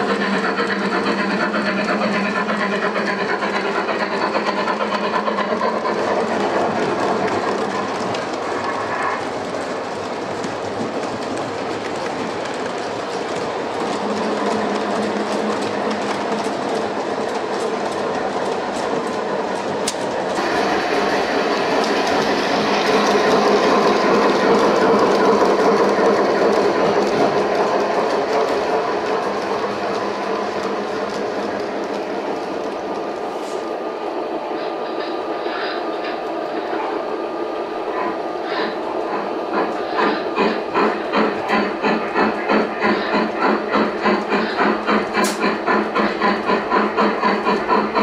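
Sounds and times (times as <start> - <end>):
model trains rattling on track: 0.0 - 48.0.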